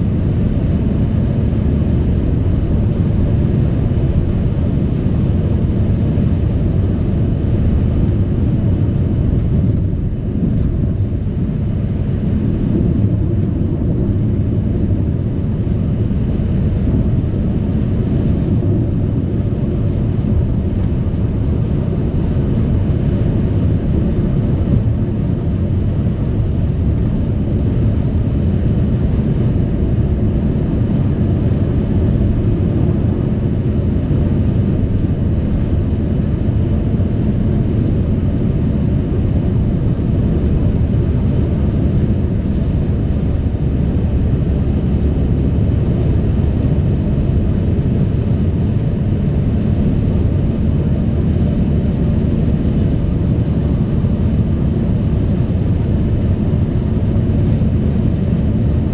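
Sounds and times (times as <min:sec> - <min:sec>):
car interior road and engine drone: 0:00.0 - 0:58.9.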